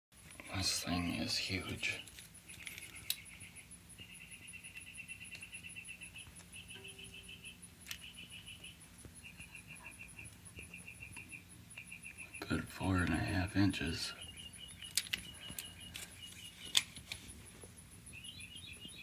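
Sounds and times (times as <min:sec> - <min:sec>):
crickets chirping: 0:00.2 - 0:19.0.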